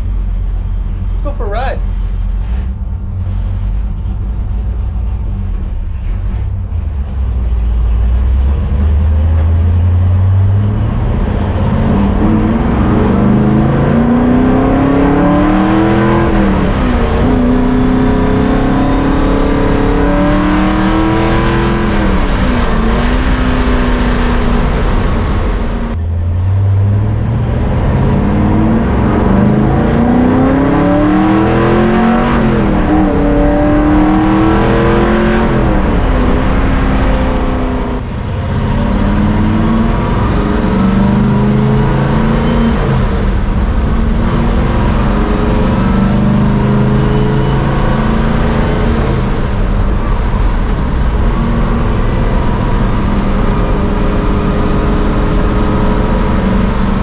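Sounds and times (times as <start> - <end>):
car engine revving through gears: 8.0 - 57.0.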